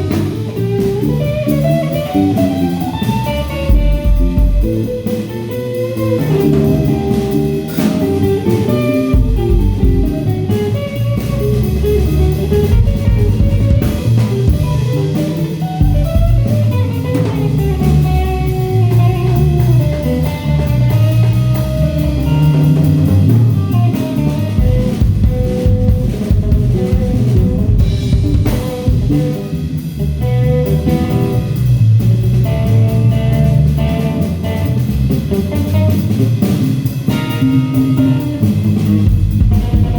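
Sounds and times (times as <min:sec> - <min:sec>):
bass: 0:00.0 - 0:39.9
drum kit: 0:00.0 - 0:39.9
guitar lead line: 0:00.0 - 0:39.9.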